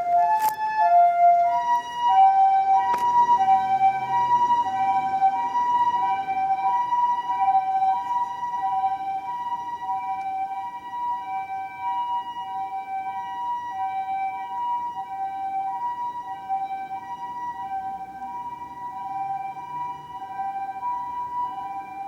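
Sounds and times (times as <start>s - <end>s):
two-tone ambulance siren: 0.0s - 22.0s.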